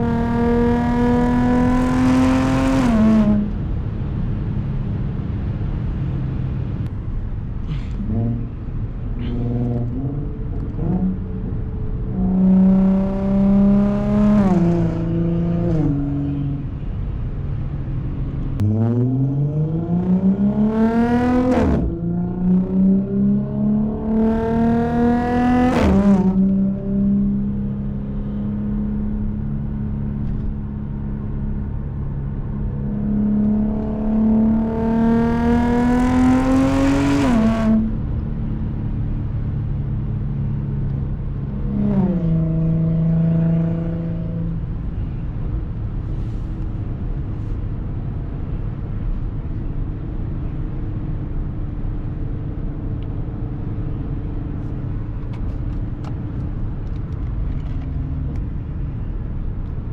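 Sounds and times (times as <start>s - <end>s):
car engine accelerating: 0.0s - 3.8s, 7.6s - 16.8s, 17.5s - 59.9s.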